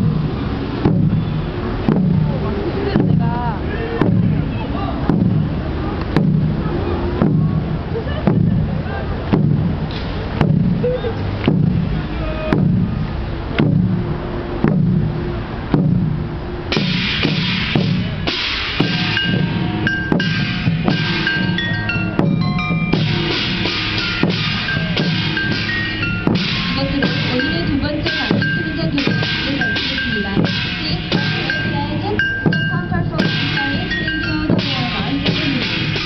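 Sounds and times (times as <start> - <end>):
barrel drum beats: 0.0 - 36.0
reedy shawm melody: 0.0 - 36.0.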